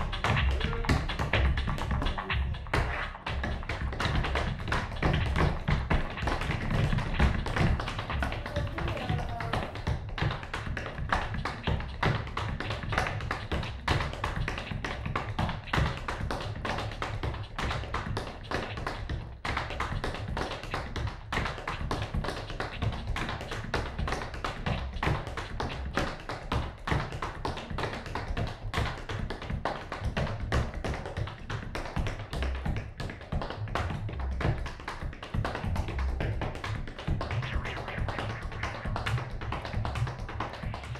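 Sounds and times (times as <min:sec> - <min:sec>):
music: 0:00.0 - 0:40.9
tap shoes on hard floor: 0:00.1 - 0:40.9.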